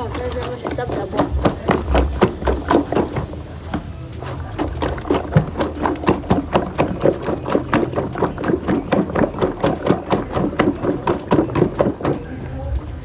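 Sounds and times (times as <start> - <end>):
hand slapping wet mixture: 0.0 - 12.6.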